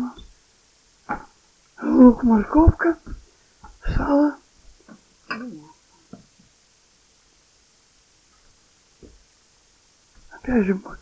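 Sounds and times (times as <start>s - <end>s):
low even hiss: 0.0s - 11.0s.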